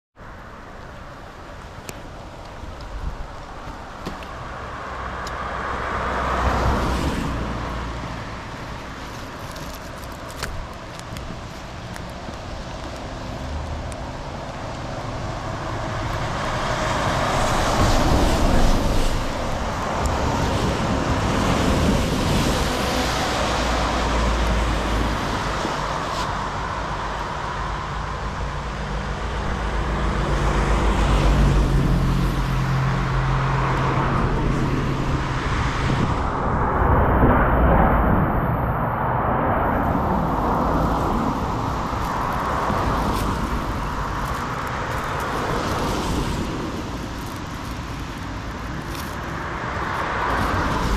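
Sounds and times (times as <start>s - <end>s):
tyres hissing on wet road: 0.3s - 36.1s, 39.6s - 50.9s.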